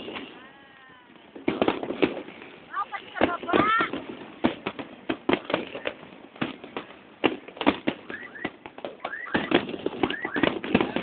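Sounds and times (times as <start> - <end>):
fireworks bangs and crackling: 0.0 - 11.0
fireworks rising squeals: 0.0 - 11.0.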